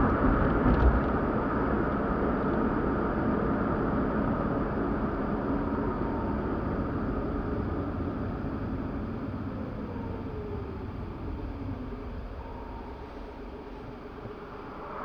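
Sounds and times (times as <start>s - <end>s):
car cabin road and engine noise: 0.0s - 15.0s
faint whine: 0.0s - 15.0s.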